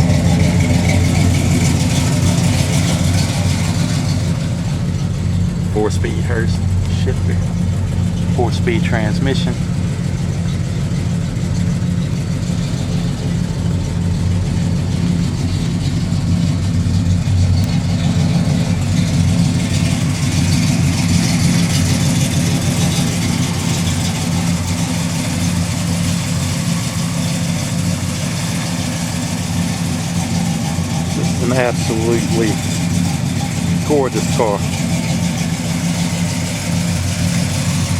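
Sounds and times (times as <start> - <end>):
car engine idling through exhaust: 0.0 - 37.9.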